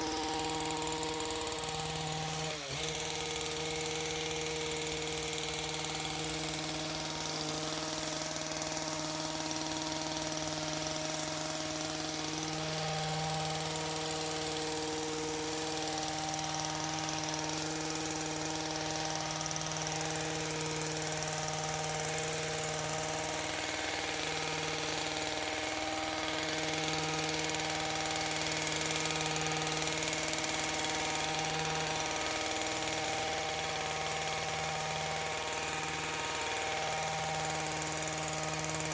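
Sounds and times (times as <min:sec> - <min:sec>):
hedge trimmer buzzing: 0:00.0 - 0:38.9.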